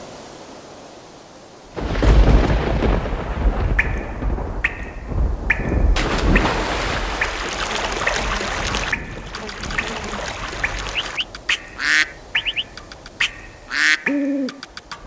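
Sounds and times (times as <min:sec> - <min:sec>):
rushing rumble: 0:01.6 - 0:13.8.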